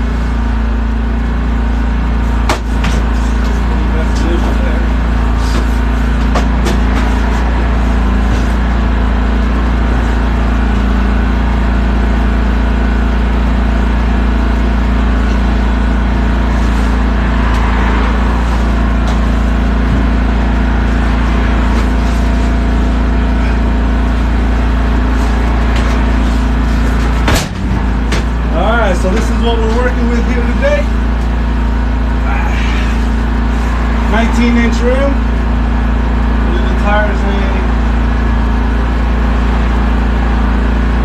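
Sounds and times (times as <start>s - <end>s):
generator and compressor engines humming: 0.0s - 41.0s.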